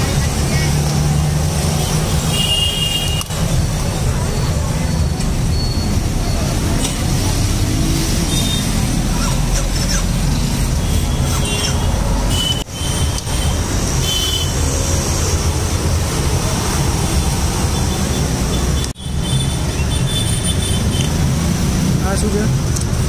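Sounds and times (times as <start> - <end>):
roadside traffic rumble: 0.0 - 23.0.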